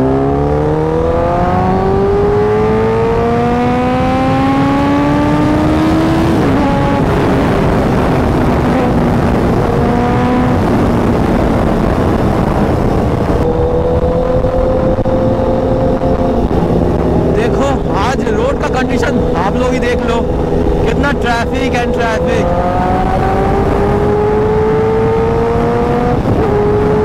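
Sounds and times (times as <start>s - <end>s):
motorcycle engine accelerating: 0.0s - 27.0s
wind rush on microphone: 0.0s - 27.0s.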